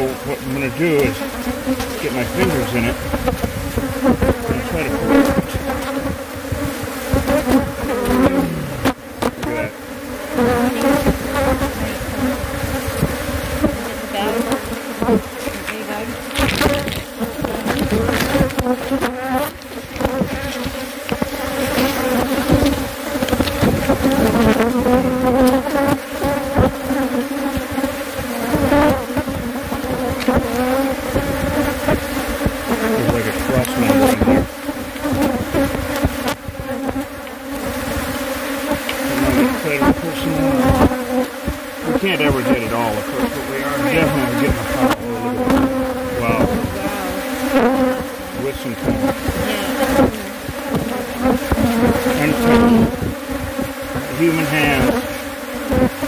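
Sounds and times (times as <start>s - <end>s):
swarm of bees buzzing: 0.0s - 56.0s.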